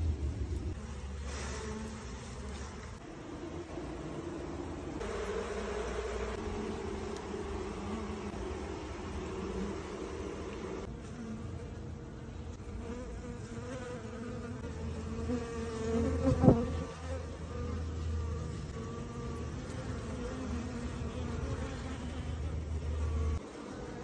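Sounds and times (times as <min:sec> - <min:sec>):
honeybees buzzing: 0:00.1 - 0:24.0.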